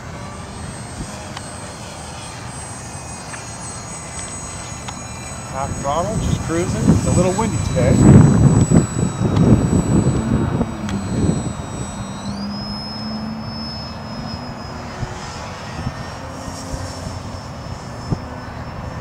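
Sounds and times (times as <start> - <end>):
model plane motor whine: 0.0 - 19.0
wind on microphone: 2.7 - 19.0.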